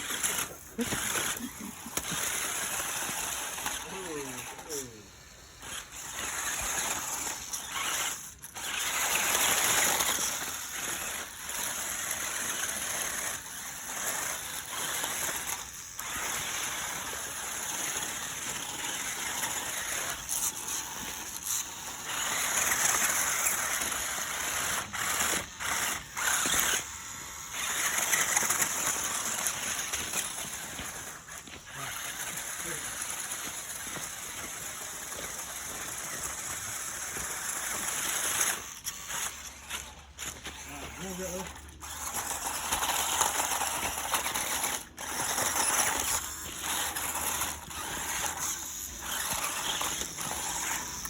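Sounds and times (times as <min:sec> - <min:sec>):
small electric motor whining: 0:00.0 - 0:51.0.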